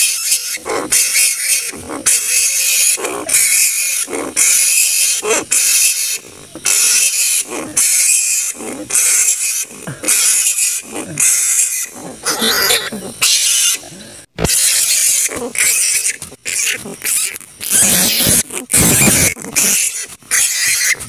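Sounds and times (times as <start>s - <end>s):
flying foxes screeching: 0.0s - 13.9s, 14.6s - 21.0s.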